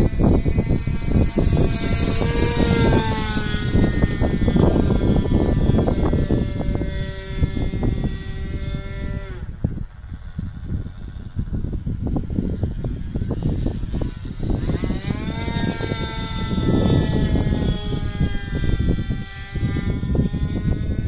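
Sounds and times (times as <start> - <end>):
model airplane engine running: 0.0 - 21.0
wind buffeting microphone: 0.0 - 21.0.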